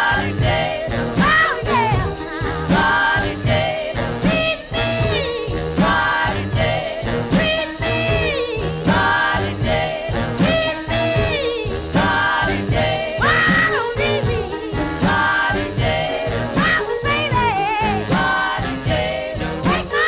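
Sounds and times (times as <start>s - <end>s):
background music with steady beat: 0.0s - 20.0s.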